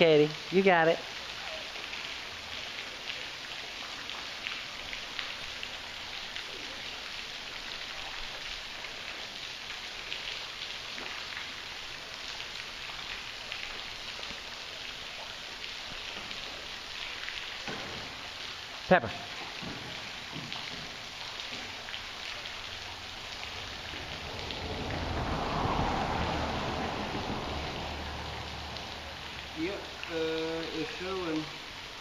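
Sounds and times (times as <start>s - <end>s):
water drops pattering on creek: 0.0s - 32.0s.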